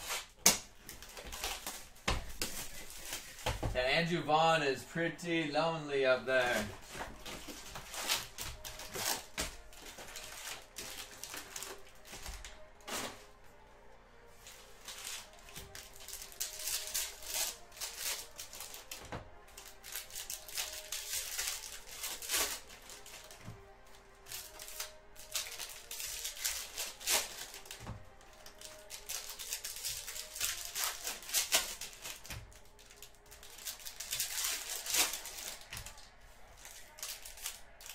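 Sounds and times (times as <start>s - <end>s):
quiet background music: 0.0s - 37.9s.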